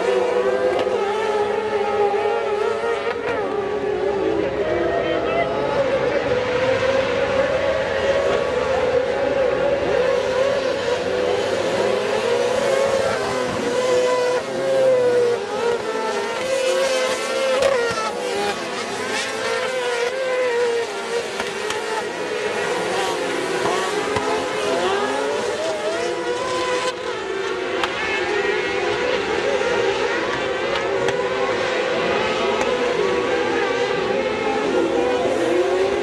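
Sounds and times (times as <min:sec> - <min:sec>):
motor engines revving: 0:00.0 - 0:36.0.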